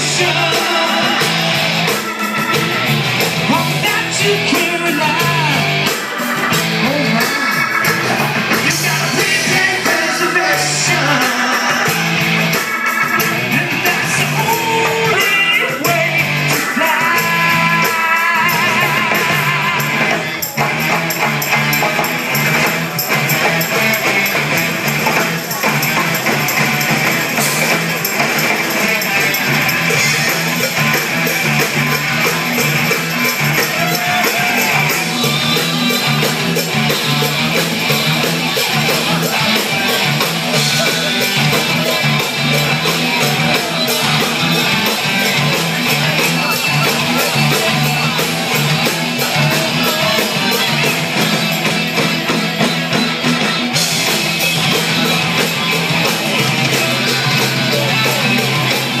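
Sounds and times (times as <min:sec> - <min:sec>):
bass guitar: 0:00.0 - 0:59.0
congas: 0:00.0 - 0:59.0
drum kit: 0:00.0 - 0:59.0
electric guitars: 0:00.0 - 0:59.0.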